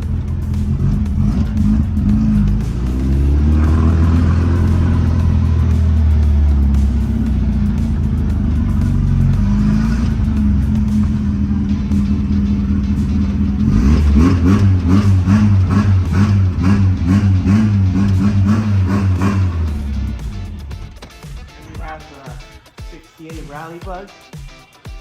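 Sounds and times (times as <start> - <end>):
car engine accelerating: 0.0 - 22.6.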